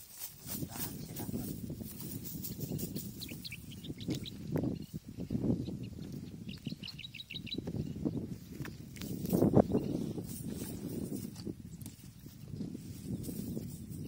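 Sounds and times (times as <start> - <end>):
small bird chirping: 0.9 - 14.0.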